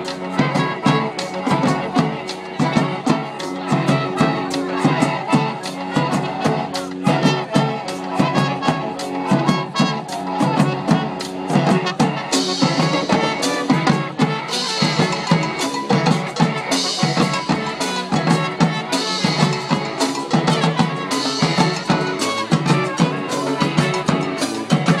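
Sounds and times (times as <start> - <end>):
brass band playing: 0.0 - 25.0
driving drum beat: 0.0 - 25.0.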